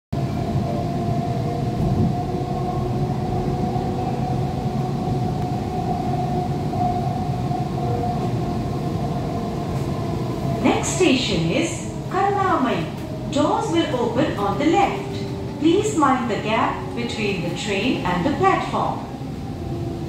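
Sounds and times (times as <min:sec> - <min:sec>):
train wheels rumbling on rails: 0:00.2 - 0:20.0.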